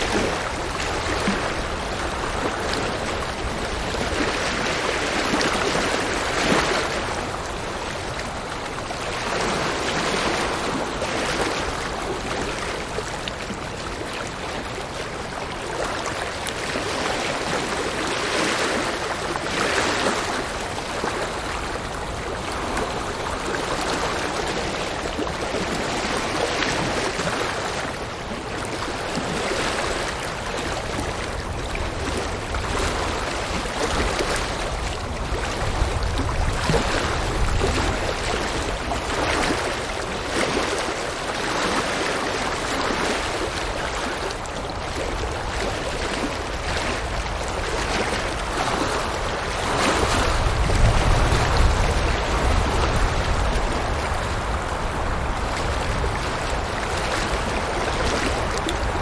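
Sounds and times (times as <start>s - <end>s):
river water rushing over rocks: 0.0s - 59.0s.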